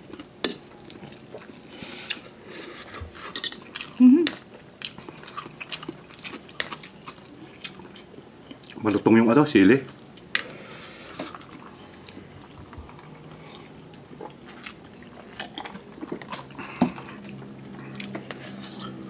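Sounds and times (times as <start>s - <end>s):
food crunching: 0.0s - 8.9s, 11.1s - 19.0s
chewing and biting: 0.1s - 8.8s, 11.2s - 19.0s.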